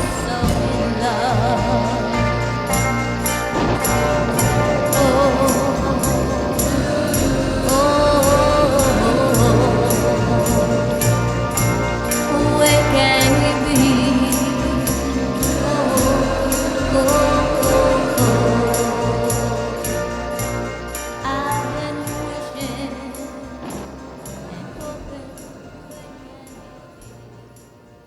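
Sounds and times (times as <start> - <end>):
woman singing: 0.0 - 27.2.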